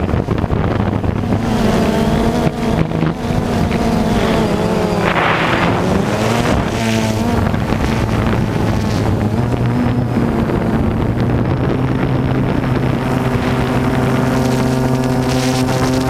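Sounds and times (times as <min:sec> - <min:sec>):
drone propellers humming: 0:00.0 - 0:16.0
wind noise on microphone: 0:00.0 - 0:16.0.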